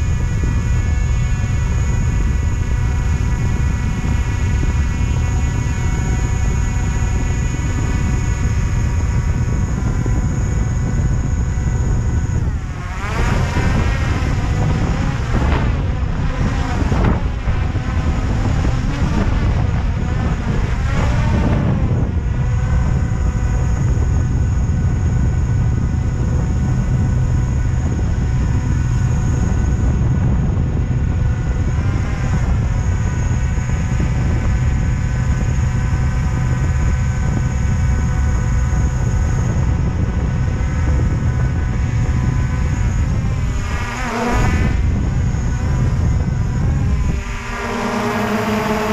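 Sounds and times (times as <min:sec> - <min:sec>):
drone motors whining: 0:00.0 - 0:48.9
heavy low rumble: 0:00.0 - 0:48.9.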